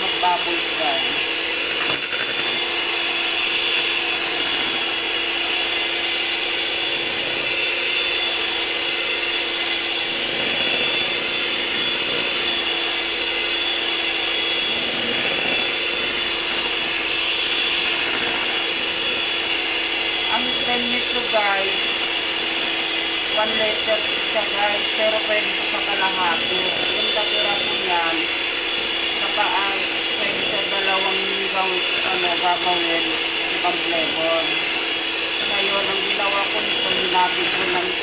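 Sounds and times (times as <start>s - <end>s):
electric hand mixer whining: 0.0s - 38.0s.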